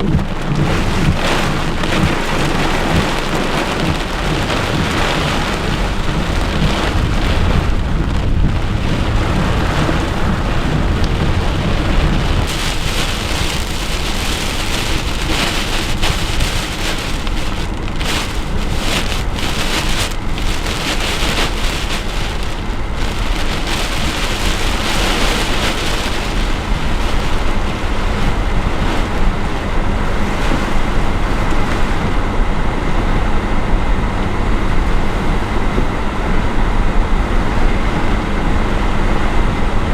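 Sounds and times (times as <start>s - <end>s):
deep thunder rumble: 0.0s - 39.9s
heavy wind-driven rain: 0.0s - 39.9s.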